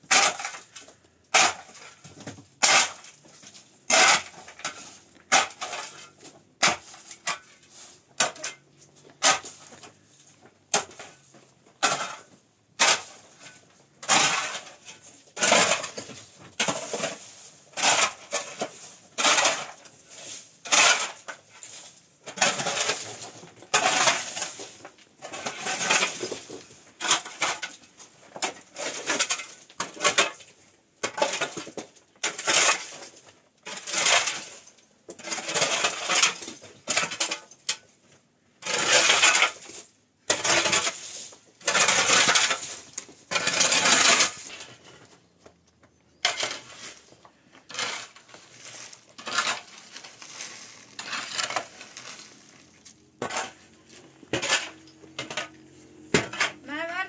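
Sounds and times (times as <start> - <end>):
metal shovel scraping dirt: 0.0 - 45.3, 46.0 - 57.0.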